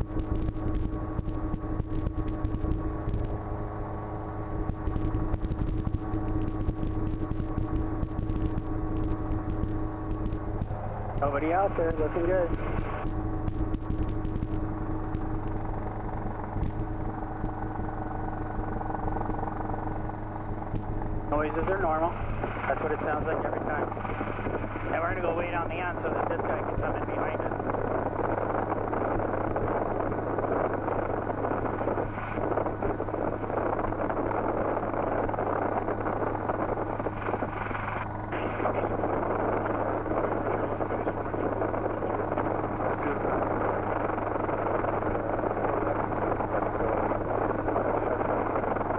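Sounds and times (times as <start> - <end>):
helicopter engine and rotors: 0.0 - 48.9.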